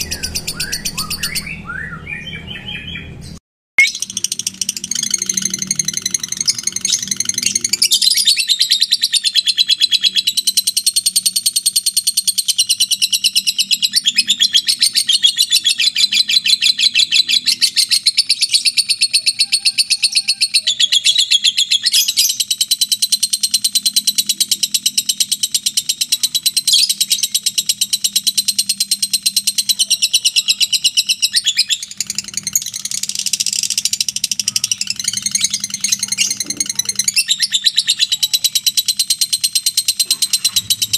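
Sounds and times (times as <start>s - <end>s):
bird chattering trill: 0.0s - 40.9s.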